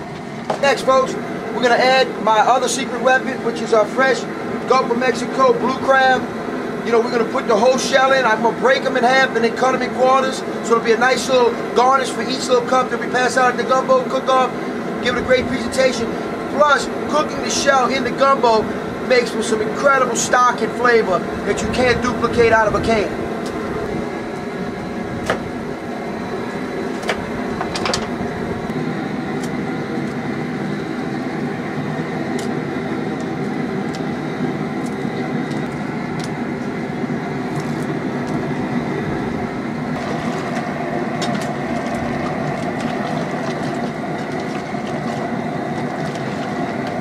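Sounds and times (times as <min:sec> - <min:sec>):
machine drone: 0:00.0 - 0:47.0.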